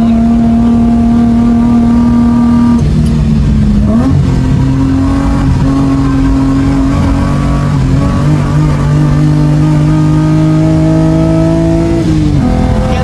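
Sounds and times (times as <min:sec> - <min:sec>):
car engine under hard driving: 0:00.0 - 0:13.0
road and wind noise: 0:00.0 - 0:13.0.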